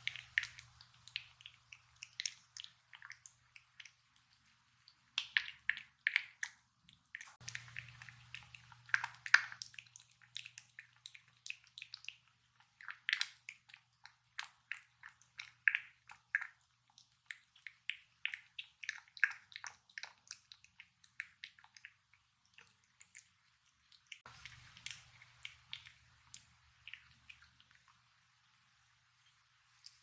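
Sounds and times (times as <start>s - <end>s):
cat chewing and licking: 0.0s - 30.0s.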